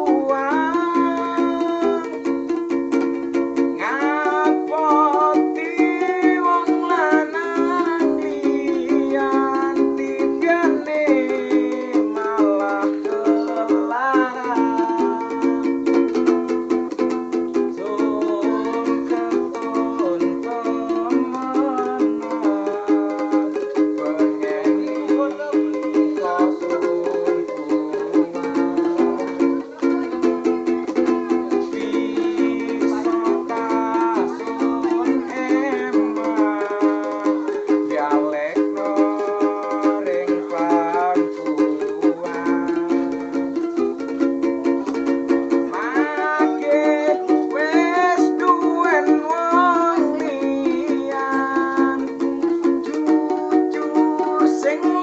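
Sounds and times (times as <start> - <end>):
fast strumming on small strings: 0.0 - 55.0
sliding lead melody: 0.0 - 55.0.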